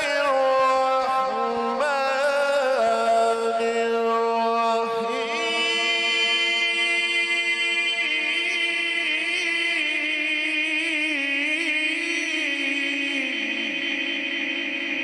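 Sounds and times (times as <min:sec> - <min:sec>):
man chanting with echo: 0:00.0 - 0:15.0.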